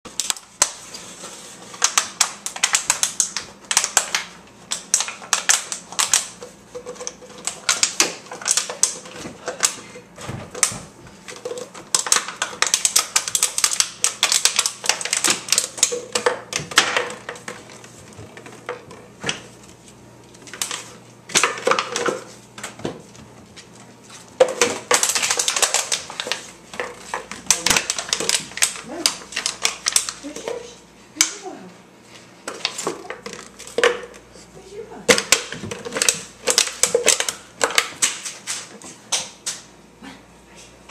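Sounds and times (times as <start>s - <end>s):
plastic bottle crackling on floor: 0.1s - 31.3s, 32.4s - 34.3s, 35.1s - 39.7s.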